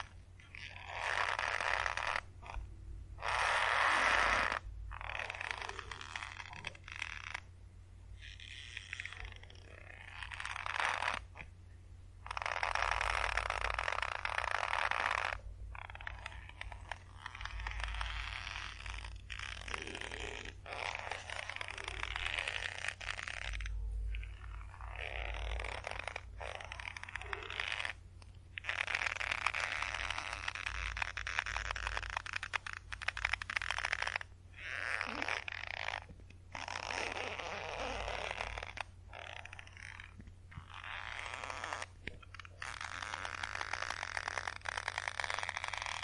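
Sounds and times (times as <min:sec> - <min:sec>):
rope creaking under tension: 0:00.0 - 0:07.5, 0:08.2 - 0:11.5, 0:12.2 - 0:46.0.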